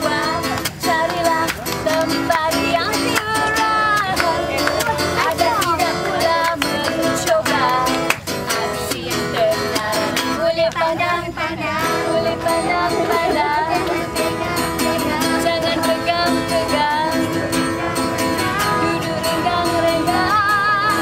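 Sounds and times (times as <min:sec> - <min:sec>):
strummed instrumental accompaniment: 0:00.0 - 0:21.0
voices singing: 0:00.0 - 0:21.0.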